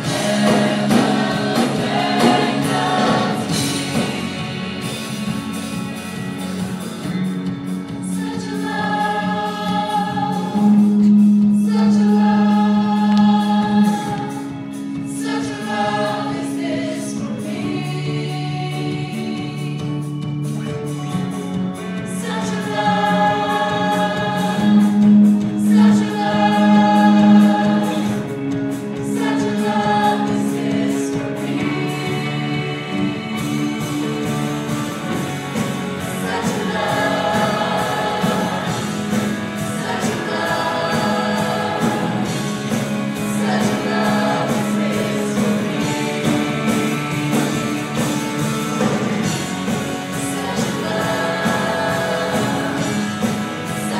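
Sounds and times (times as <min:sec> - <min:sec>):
choir singing gospel song: 0:00.0 - 0:53.9.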